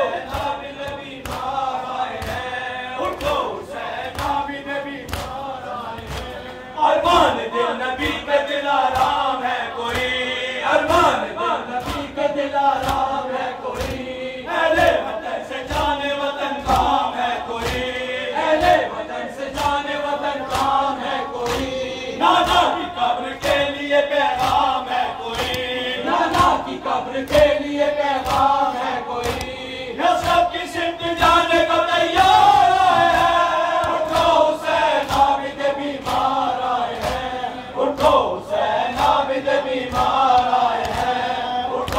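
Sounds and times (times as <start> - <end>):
men chanting in unison: 0.0 - 41.9.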